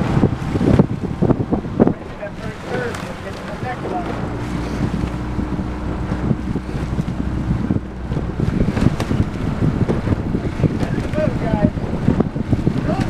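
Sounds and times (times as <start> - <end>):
boat noise: 0.0 - 13.0
low rumble of water: 0.0 - 13.0
wind buffeting microphone: 0.0 - 13.0.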